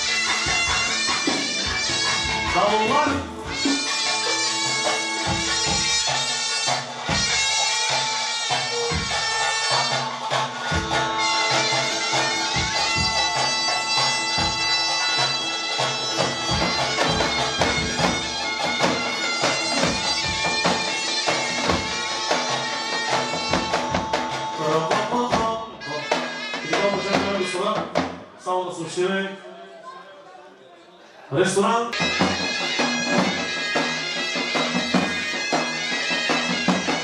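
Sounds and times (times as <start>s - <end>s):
reedy wind instrument melody: 0.0s - 28.0s, 31.9s - 37.0s
drum beating: 0.0s - 28.4s, 32.0s - 37.0s.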